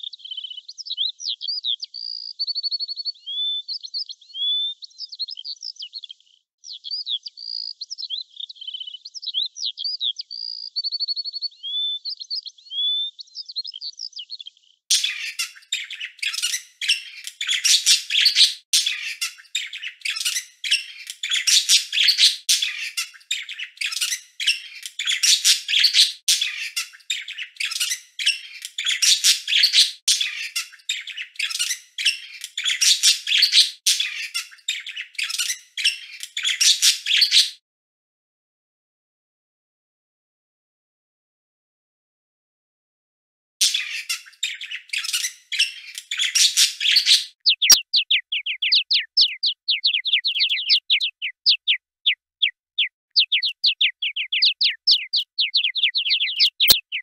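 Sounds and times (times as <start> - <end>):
rapid bird chirping and chattering: 0.0 - 37.6, 43.6 - 57.0
songbird chirps and trill: 0.0 - 37.6, 43.6 - 57.0.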